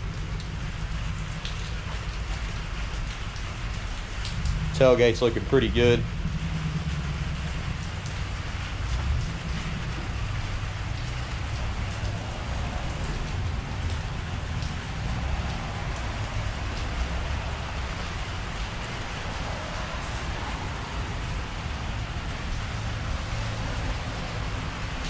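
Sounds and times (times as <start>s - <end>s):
low rumble: 0.0s - 23.3s
rain on an awning and pavement: 0.0s - 25.0s
water drips ticking: 0.0s - 25.0s.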